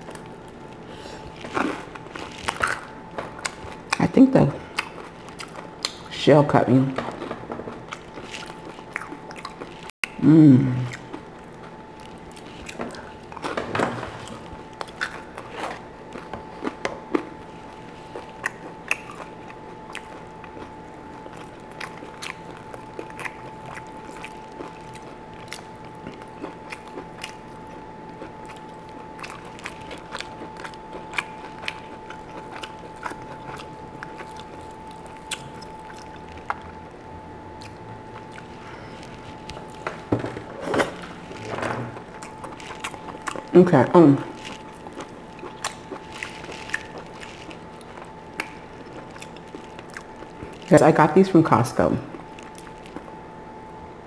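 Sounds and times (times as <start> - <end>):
chewing and biting: 0.0 - 6.1, 7.1 - 10.2, 10.8 - 43.6, 44.2 - 50.8, 52.1 - 53.2.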